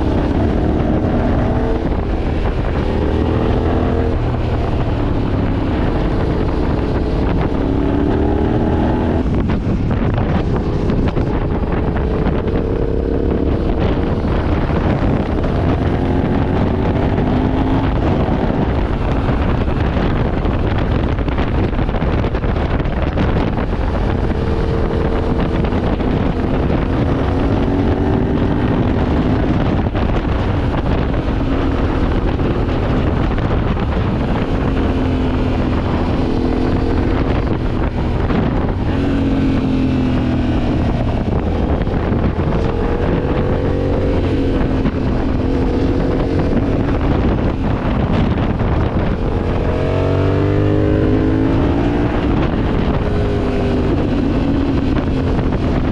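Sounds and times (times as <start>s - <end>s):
motorcycle engine revving: 0.0s - 55.9s
wind buffeting microphone: 0.0s - 55.9s.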